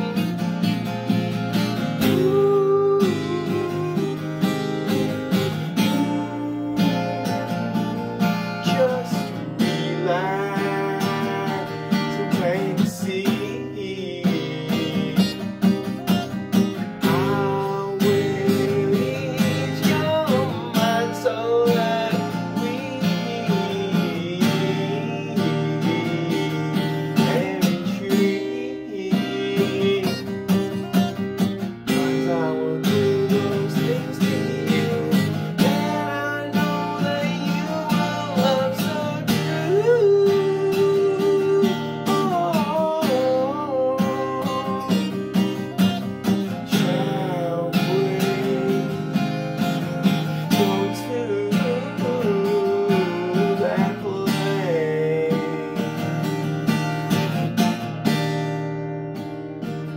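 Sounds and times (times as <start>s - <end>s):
man singing: 0.0s - 58.5s
acoustic guitar strumming: 0.0s - 59.9s.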